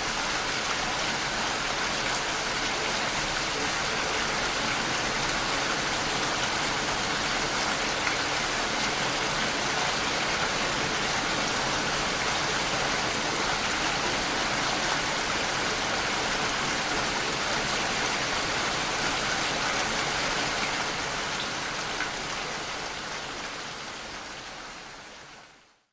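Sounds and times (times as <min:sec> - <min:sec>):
heavy rain falling: 0:00.0 - 0:25.5.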